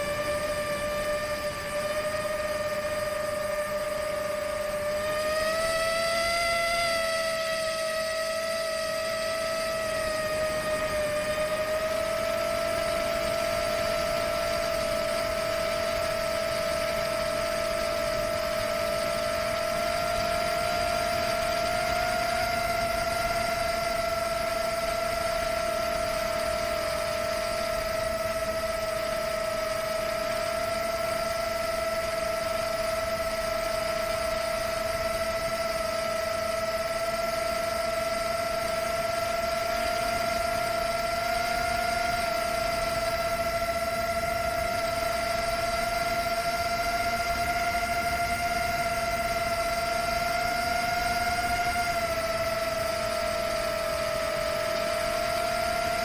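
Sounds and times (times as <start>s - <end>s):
drone motors whining: 0.0s - 56.0s.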